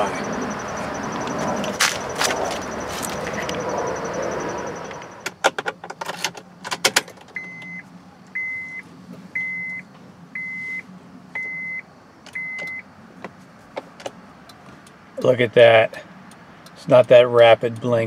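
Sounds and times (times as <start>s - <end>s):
turn signal clicking and beeping: 0.0s - 15.5s, 16.1s - 18.0s.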